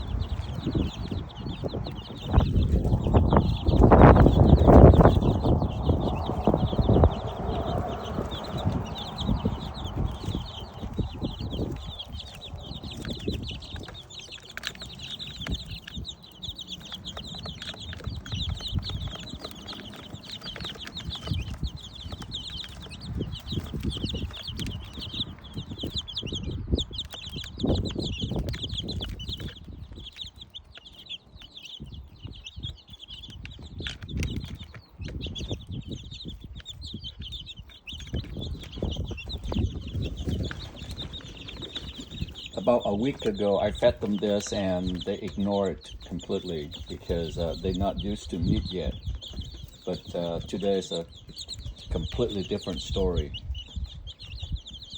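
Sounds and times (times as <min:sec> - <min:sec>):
chicks peeping: 0:00.0 - 0:54.9
pecking knocks and scuffling: 0:00.0 - 0:54.9.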